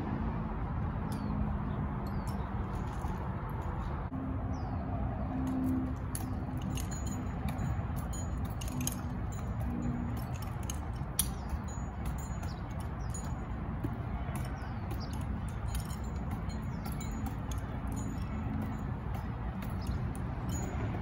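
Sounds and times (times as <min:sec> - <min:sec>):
metal climbing hardware clinking: 0:01.1 - 0:03.9, 0:05.4 - 0:21.0.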